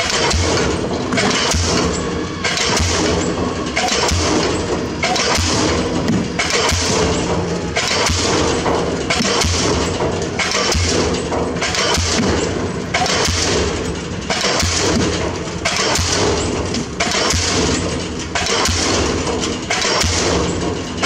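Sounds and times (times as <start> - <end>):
diesel pile hammer blows: 0.0 - 21.0.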